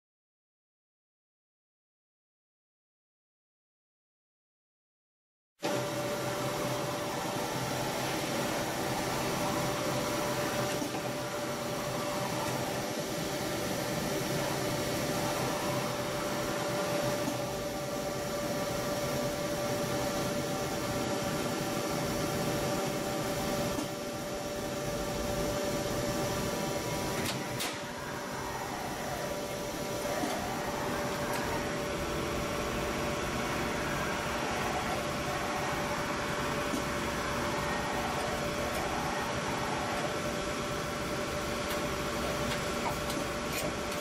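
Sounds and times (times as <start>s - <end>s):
lathe humming and whining: 5.6s - 44.0s.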